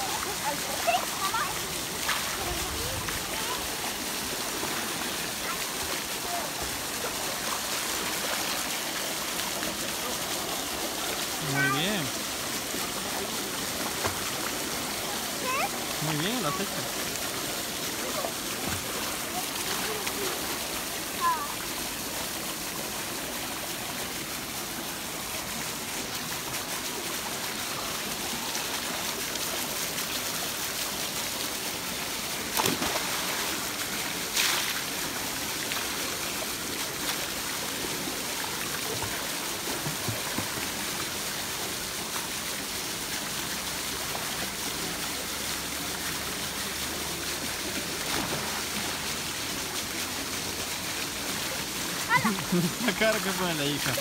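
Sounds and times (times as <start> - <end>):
fountain pouring water into pool: 0.0 - 54.0.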